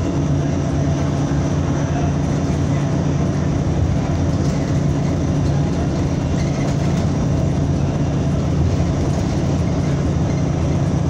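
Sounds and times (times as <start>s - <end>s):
bus engine drone: 0.0s - 11.0s
road and cabin noise: 0.0s - 11.0s.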